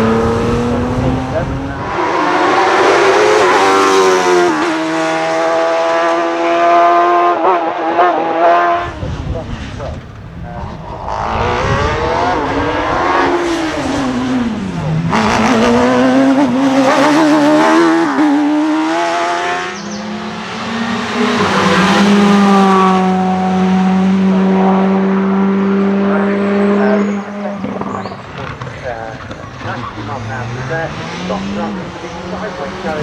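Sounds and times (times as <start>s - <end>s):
racing car engine accelerating: 0.0s - 33.0s.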